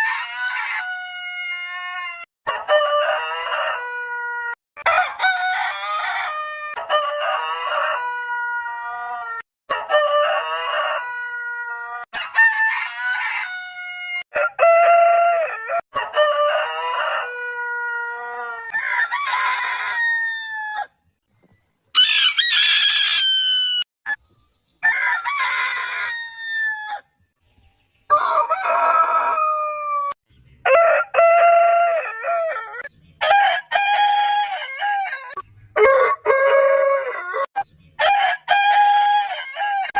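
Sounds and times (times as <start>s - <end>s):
rooster crowing: 0.0s - 20.9s, 22.0s - 23.9s, 24.8s - 27.1s, 28.1s - 39.9s.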